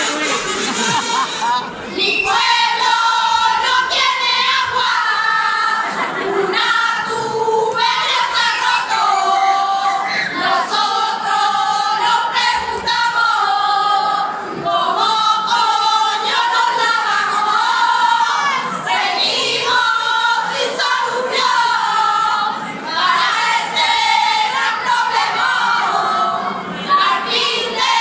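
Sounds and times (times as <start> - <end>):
women singing in chorus: 1.9 - 28.0.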